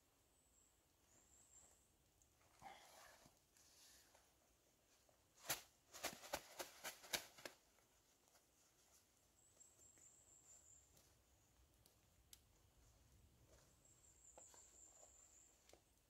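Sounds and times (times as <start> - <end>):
camping gear crackling and rustling: 2.2 - 16.0.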